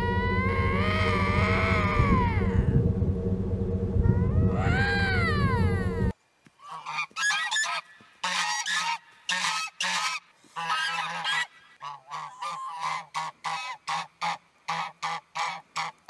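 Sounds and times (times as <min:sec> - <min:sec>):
swans honking: 0:00.0 - 0:02.8, 0:04.5 - 0:16.0.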